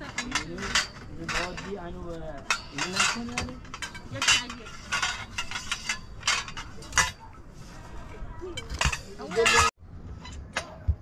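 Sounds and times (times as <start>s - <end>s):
metal pipes clanking: 0.0s - 7.4s, 8.6s - 10.8s.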